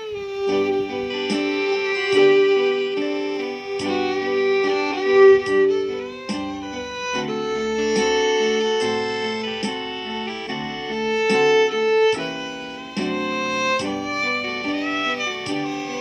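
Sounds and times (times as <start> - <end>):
plucked-string accompaniment: 0.0 - 16.0
steady beat: 0.0 - 16.0
violin melody: 0.0 - 16.0.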